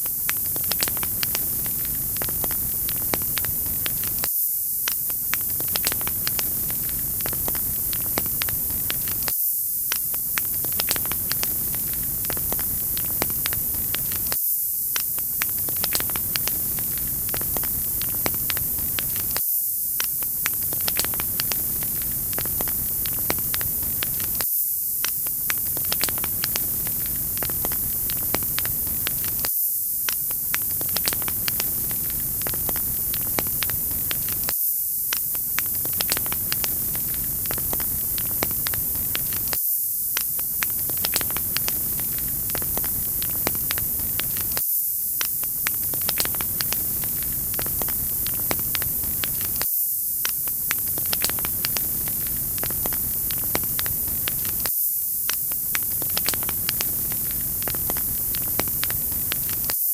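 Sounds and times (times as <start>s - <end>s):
wood fire crackling and popping: 0.0s - 59.8s.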